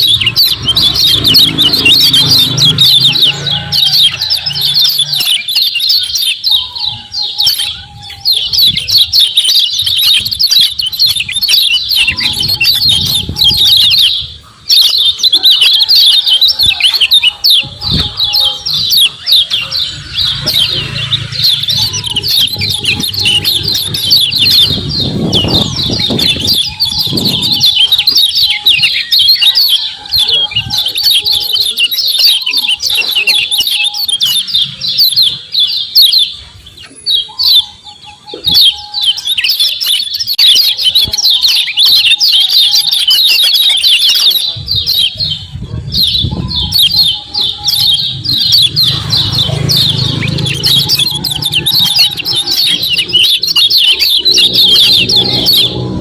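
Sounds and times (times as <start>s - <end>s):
bird chattering high chirps: 0.0s - 56.0s.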